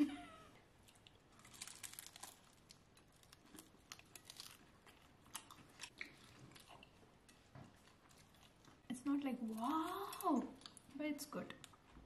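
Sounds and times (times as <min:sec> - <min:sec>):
crunching and chewing pastry: 0:00.7 - 0:12.0.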